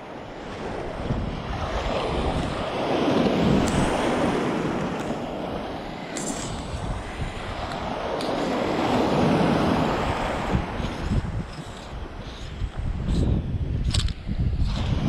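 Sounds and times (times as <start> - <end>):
surf washing onto shore: 0.0 - 13.1
wind buffeting microphone: 0.0 - 15.0.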